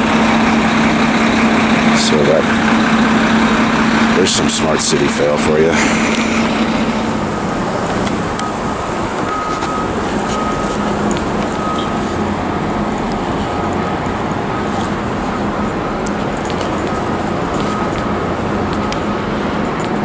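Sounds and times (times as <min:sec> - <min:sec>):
low hum: 0:00.0 - 0:19.8
road noise of passing vehicles: 0:00.0 - 0:20.0.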